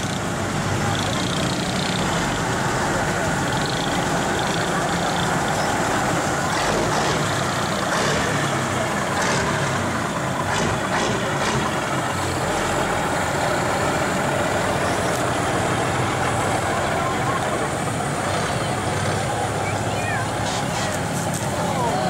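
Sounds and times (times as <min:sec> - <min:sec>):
truck engine rolling past: 0:00.0 - 0:22.0.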